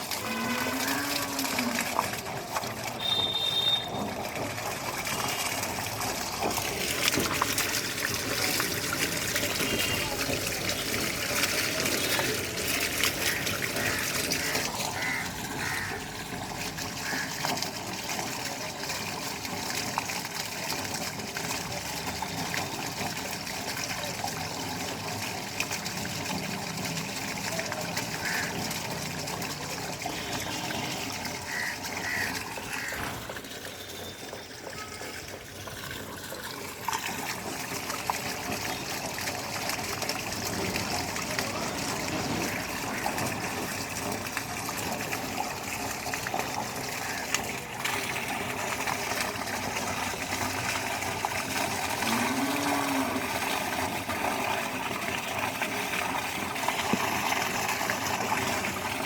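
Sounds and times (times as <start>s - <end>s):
water trickling into a drain: 0.0s - 59.0s.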